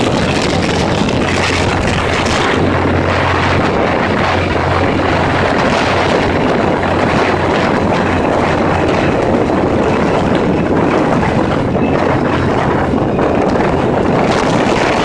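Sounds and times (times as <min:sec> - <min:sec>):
low engine hum: 0:00.0 - 0:15.0
wind buffeting microphone: 0:00.0 - 0:15.0.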